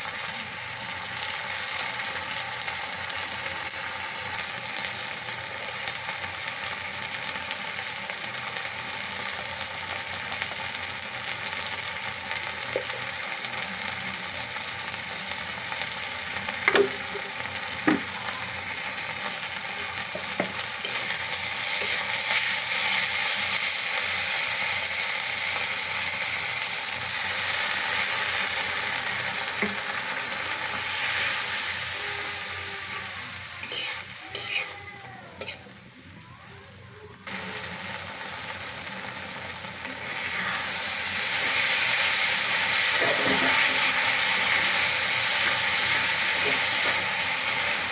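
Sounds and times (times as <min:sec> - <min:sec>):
food sizzling in hot oil: 0:00.0 - 0:47.9.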